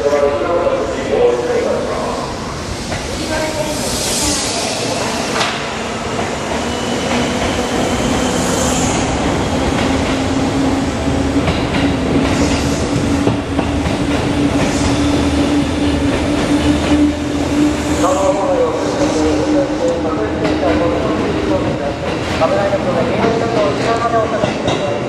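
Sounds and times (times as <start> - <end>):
electric train hum: 0.0 - 25.0
rumble of passing train cars: 0.0 - 25.0.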